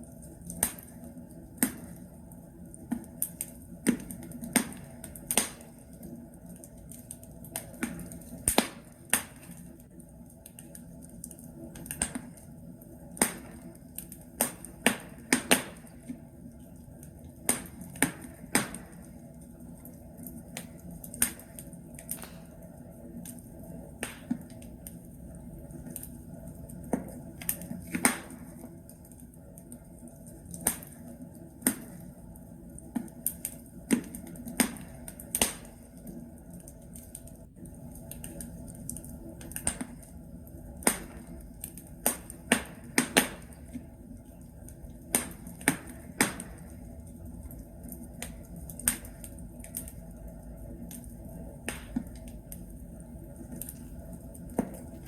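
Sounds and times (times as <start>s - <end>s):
logs crackling and popping: 0.0s - 55.0s
low hiss of fire: 0.0s - 55.0s.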